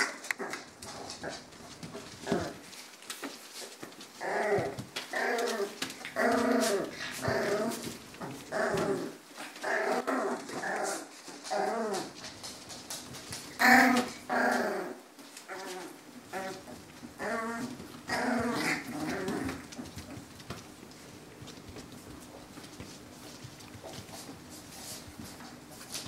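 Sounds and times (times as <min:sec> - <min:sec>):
puppies growling: 0:00.0 - 0:26.0.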